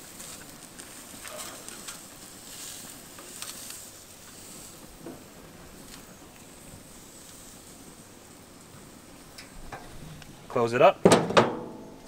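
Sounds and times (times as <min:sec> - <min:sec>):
fish sizzling on grill: 0:00.0 - 0:10.9.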